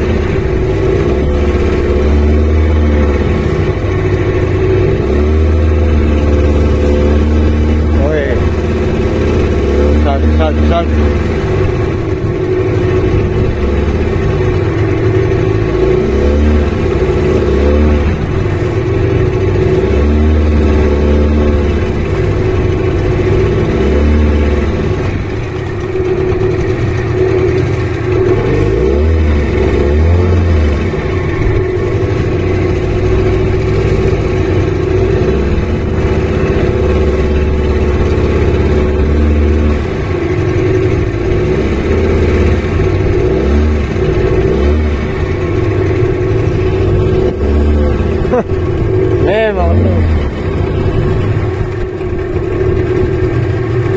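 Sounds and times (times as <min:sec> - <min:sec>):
boat engine revving up and down: 0:00.0 - 0:53.9.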